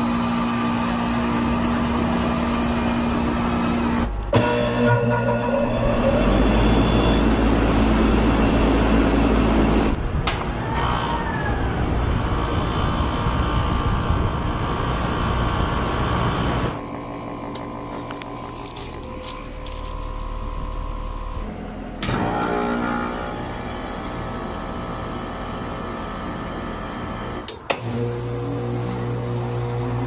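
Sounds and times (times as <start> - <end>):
hvac fan and motor drone: 0.0 - 30.0.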